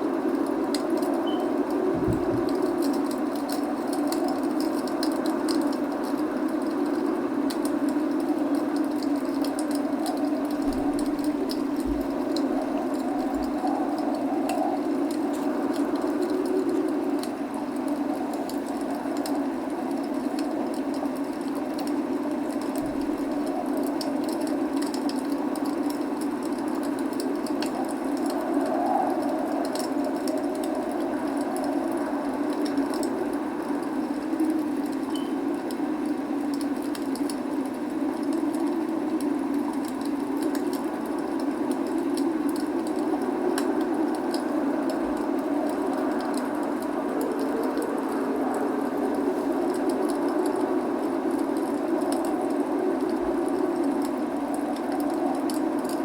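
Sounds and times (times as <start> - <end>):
log fire crackling and popping: 0.0 - 56.0
rain rushing: 0.0 - 56.0.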